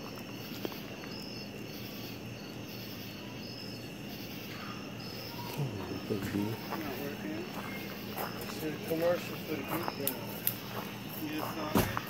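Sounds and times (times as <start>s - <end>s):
crickets chirping: 0.0s - 12.0s
higher insect chirp: 0.0s - 12.0s.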